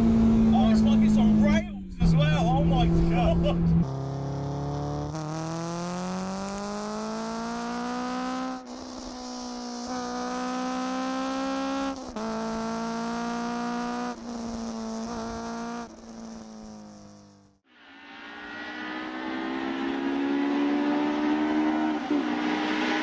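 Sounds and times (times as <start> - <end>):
car engine revving hard: 0.0 - 17.1, 18.2 - 23.0.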